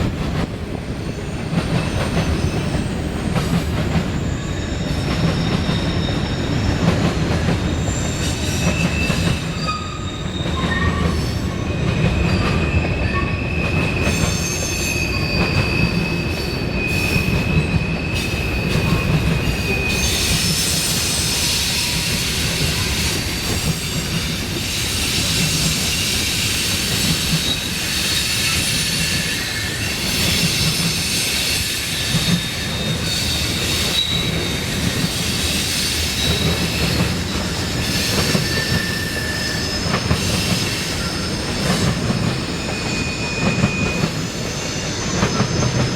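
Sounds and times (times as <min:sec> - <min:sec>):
train wheels rumbling on rail: 0:00.0 - 0:45.9
high-pitched wheel squeal: 0:07.7 - 0:24.0, 0:24.8 - 0:45.9.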